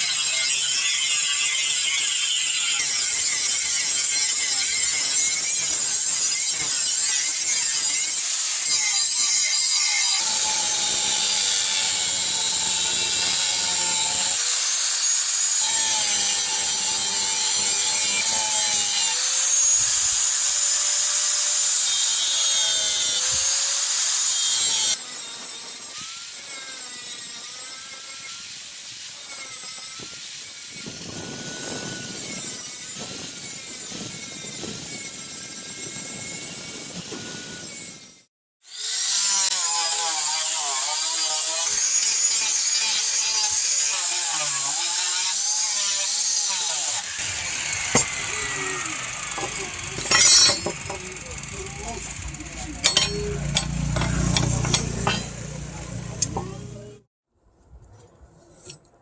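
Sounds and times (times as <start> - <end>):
electric grinder grinding steel: 0.0 - 57.1.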